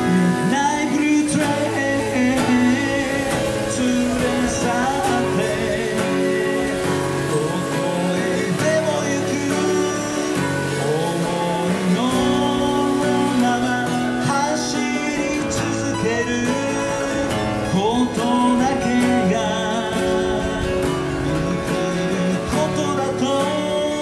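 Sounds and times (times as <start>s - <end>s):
man singing pop-rock song: 0.0s - 24.0s
strummed acoustic guitar: 0.0s - 24.0s.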